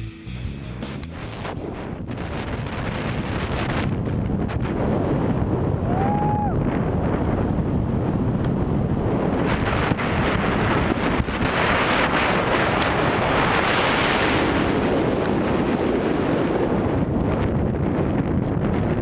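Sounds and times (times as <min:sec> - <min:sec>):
wind rushing over microphone: 0:00.8 - 0:19.0.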